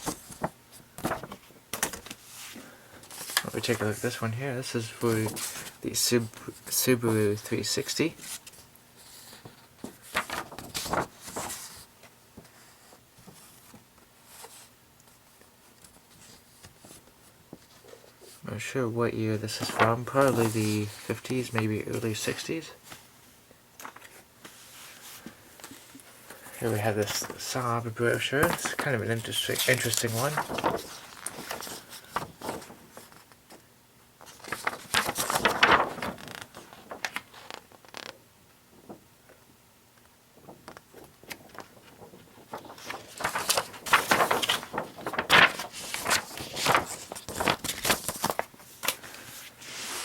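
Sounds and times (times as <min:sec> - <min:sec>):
paper pages rustling: 0:00.0 - 0:18.4, 0:19.3 - 0:23.1, 0:23.8 - 0:33.6, 0:34.2 - 0:38.2, 0:40.4 - 0:50.0.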